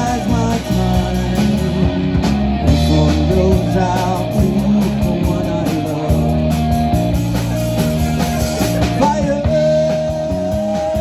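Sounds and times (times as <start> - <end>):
drums: 0.0 - 11.0
electric guitars: 0.0 - 11.0
held lead guitar notes: 0.0 - 11.0.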